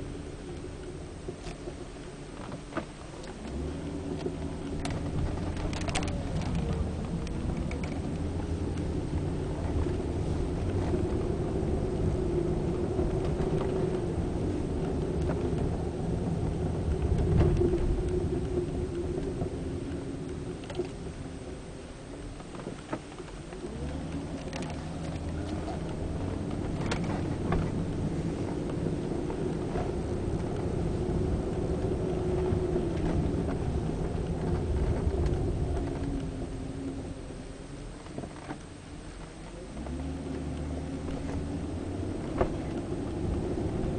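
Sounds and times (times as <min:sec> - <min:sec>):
car interior road rumble: 0:00.0 - 0:43.9.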